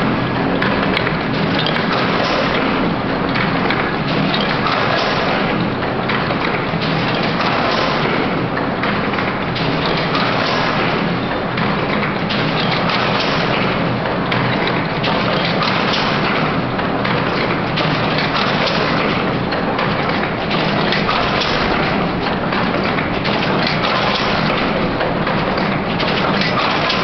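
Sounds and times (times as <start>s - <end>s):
net making machine clattering: 0.0s - 27.0s.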